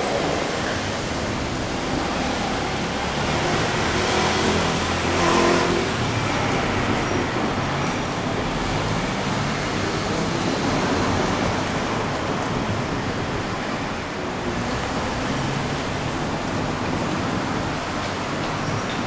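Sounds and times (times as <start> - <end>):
background traffic noise: 0.0 - 19.0.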